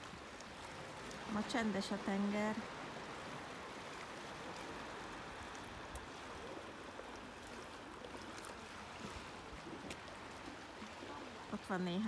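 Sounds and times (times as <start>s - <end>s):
water lapping around rocks: 0.0s - 12.0s.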